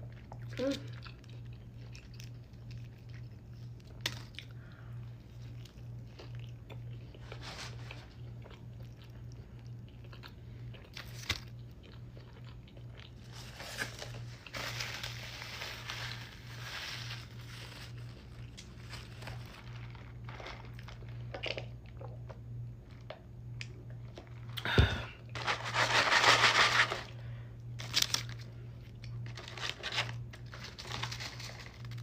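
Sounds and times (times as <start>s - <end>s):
biting and chewing food: 0.0s - 32.0s
steady low hum: 0.0s - 32.0s.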